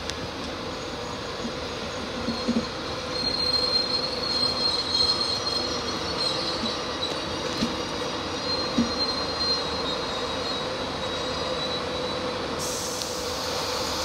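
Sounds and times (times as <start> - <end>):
train wheels squealing on rails: 0.2 - 14.0.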